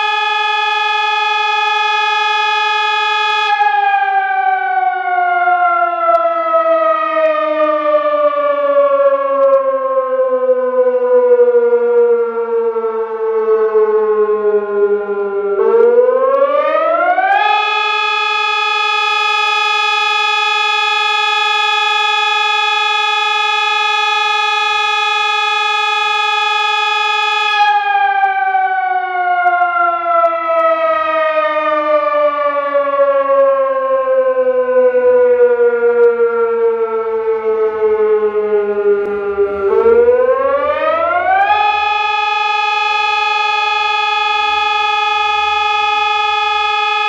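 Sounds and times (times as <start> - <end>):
electronic siren tone: 0.0 - 47.0.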